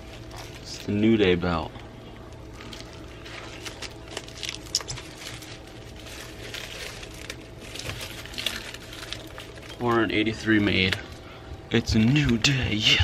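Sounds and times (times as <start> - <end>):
plastic wrapping crinkling: 0.0 - 1.2, 2.2 - 12.6.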